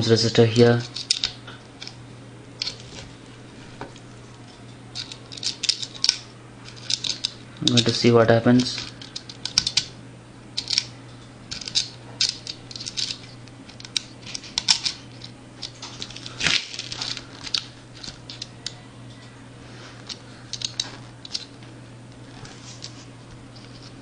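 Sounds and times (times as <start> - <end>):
steady low hum: 0.0 - 24.0
hands handling wire leads: 0.5 - 2.0, 2.6 - 9.9, 10.6 - 24.0.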